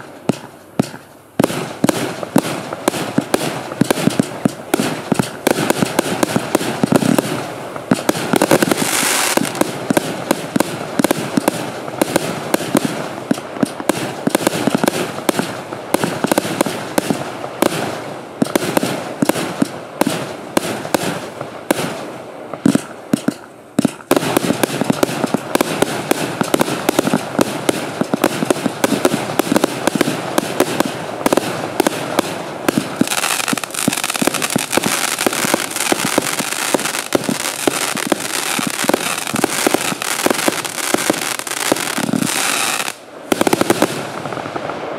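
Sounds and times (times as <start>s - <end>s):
fireworks cake firing volley: 0.0s - 44.9s.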